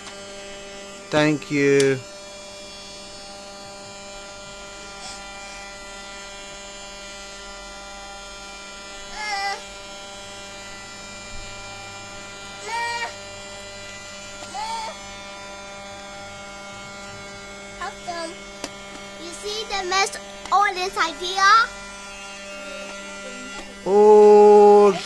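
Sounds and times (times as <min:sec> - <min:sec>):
small electric motor humming: 0:00.0 - 0:25.0.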